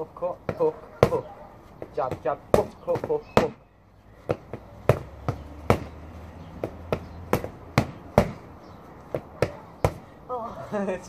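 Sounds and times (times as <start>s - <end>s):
boxing gloves slapping pads: 0.4s - 3.6s, 4.2s - 10.1s.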